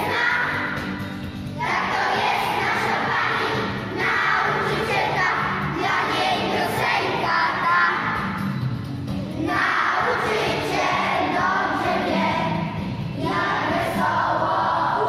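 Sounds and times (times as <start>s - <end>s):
children's choir singing: 0.0s - 1.0s, 1.6s - 8.5s, 9.4s - 15.0s.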